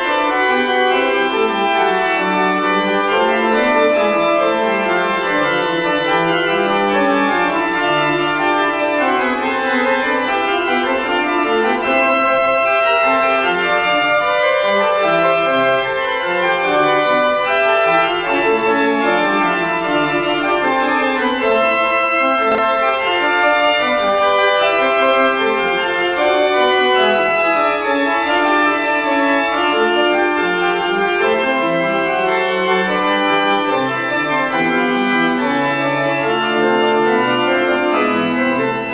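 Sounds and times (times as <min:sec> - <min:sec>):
organ music: 0:00.0 - 0:38.9.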